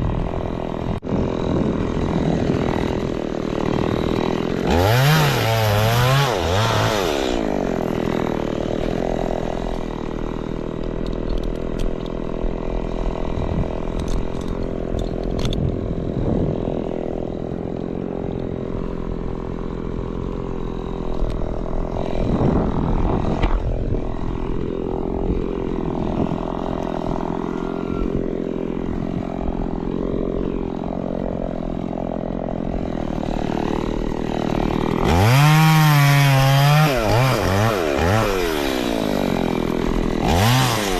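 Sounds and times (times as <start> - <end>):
chainsaw engine idling and revving: 0.0 - 40.9.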